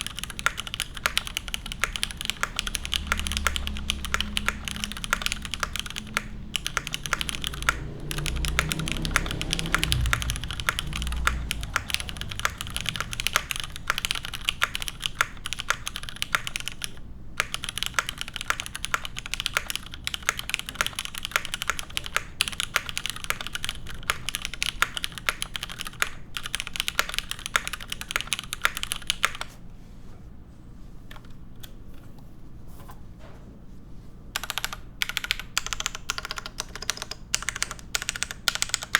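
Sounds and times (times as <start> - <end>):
mechanical keyboard typing: 0.0 - 29.5, 34.4 - 38.9.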